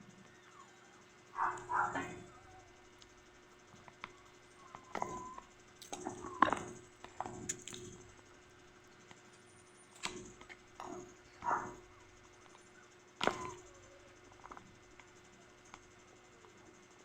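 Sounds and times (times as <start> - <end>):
eating clicks and crunches: 1.4 - 16.6.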